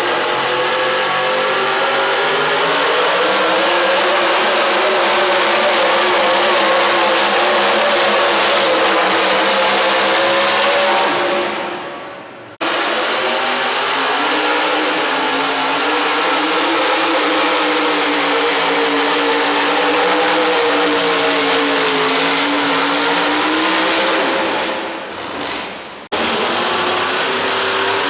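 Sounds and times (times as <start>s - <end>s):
pulling truck engine revving hard: 0.0s - 11.9s, 12.5s - 28.0s.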